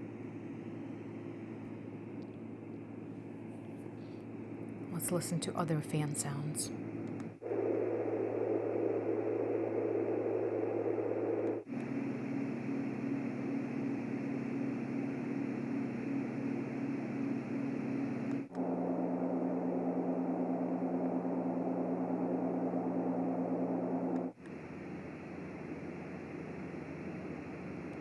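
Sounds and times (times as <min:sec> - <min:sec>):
noise machine fan sound: 0:00.0 - 0:28.0.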